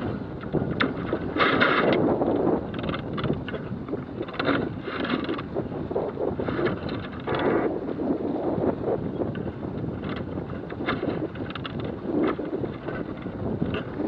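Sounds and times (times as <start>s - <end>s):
water rushing along a hull: 0.0s - 14.0s
wind buffeting microphone: 0.0s - 14.0s.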